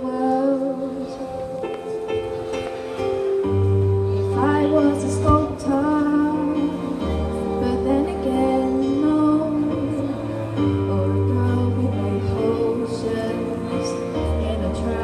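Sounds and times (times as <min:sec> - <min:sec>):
person singing live: 0:00.0 - 0:01.9, 0:03.8 - 0:15.0
backing track music: 0:00.4 - 0:15.0.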